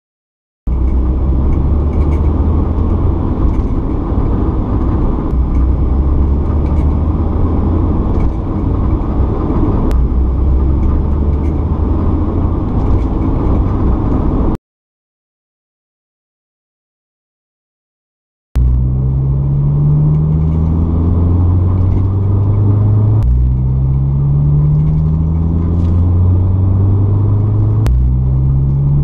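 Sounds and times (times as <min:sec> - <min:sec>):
car engine accelerating: 0:00.7 - 0:14.6, 0:18.6 - 0:29.0
road noise: 0:00.7 - 0:14.6, 0:18.6 - 0:29.0.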